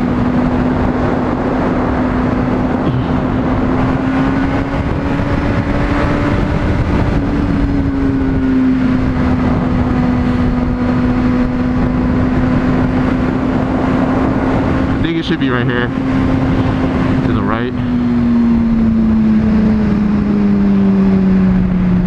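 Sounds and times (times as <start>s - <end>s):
motorcycle engine cruising: 0.0s - 22.0s
wind noise: 0.0s - 22.0s.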